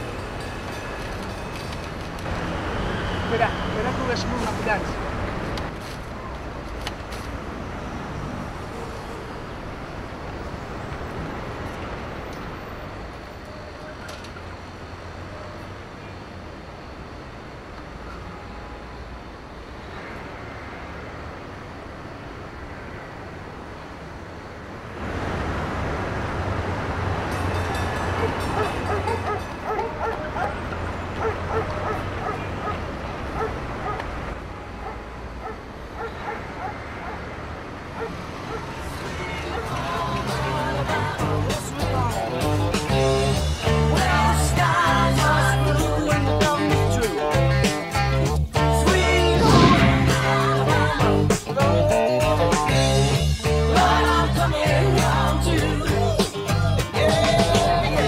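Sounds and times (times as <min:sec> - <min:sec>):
street traffic hum: 0:00.0 - 0:58.0.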